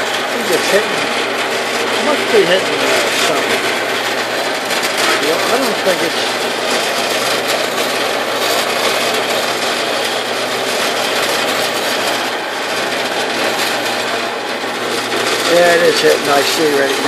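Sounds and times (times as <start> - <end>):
bandsaw blade scraping steel: 0.0 - 17.0
low motor hum: 0.0 - 17.0.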